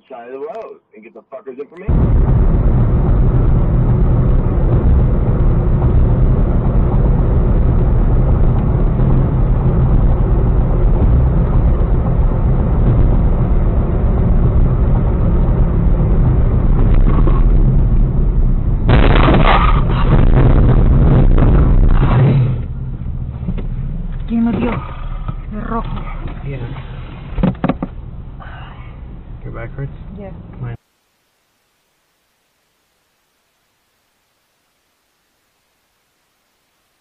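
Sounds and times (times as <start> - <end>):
car road and engine rumble: 0.0 - 30.9.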